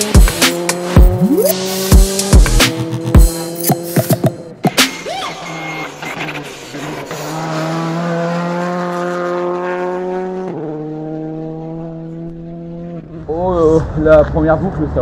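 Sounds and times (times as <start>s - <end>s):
rally car engine running hard: 0.0s - 4.2s, 5.8s - 15.0s.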